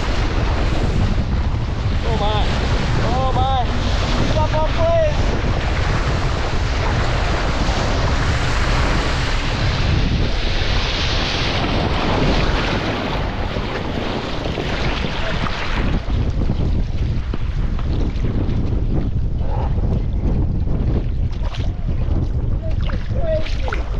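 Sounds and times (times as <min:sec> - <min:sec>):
water rushing around boat: 0:00.0 - 0:23.9
wind buffeting microphone: 0:00.0 - 0:23.9.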